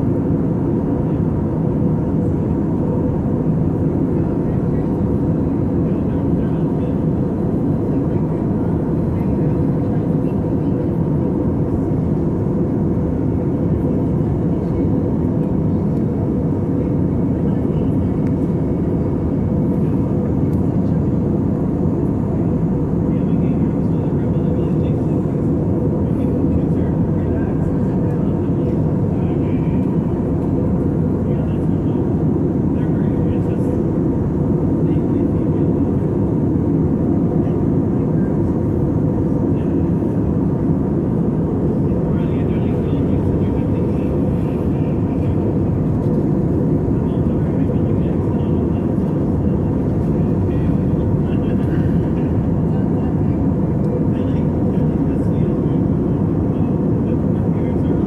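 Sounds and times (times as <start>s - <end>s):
airplane engines rumbling: 0.0s - 58.0s.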